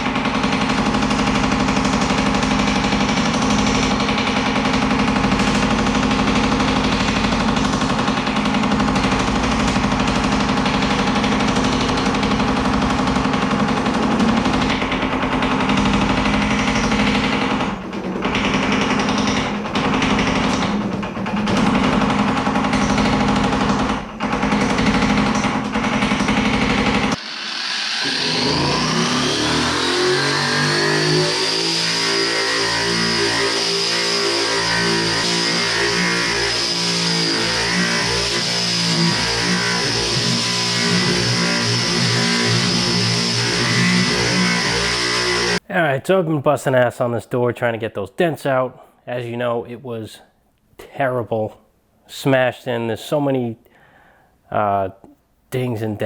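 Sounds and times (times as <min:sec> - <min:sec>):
power hammer striking sheet steel: 0:00.0 - 0:45.6.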